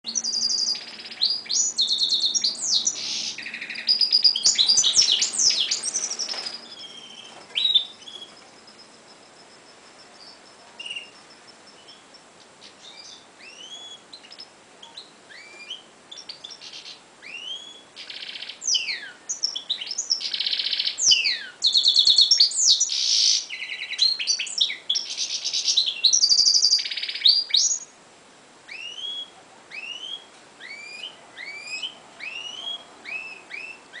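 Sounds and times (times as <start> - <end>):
finches singing: 0.1 - 27.9, 28.7 - 34.0.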